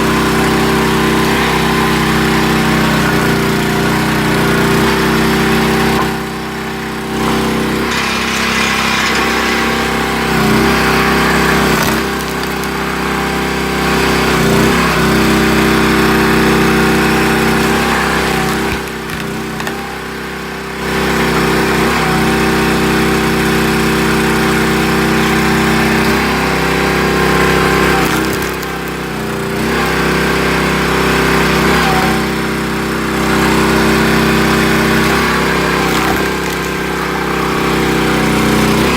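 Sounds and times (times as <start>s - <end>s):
single-cylinder engine running: 0.0s - 38.9s.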